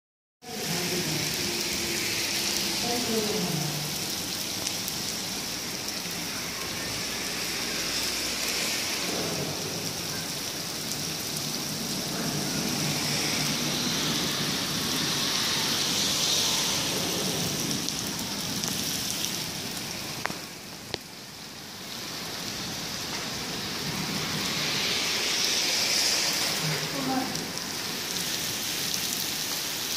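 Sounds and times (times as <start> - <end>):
heavy rain on paving: 0.4 - 29.9.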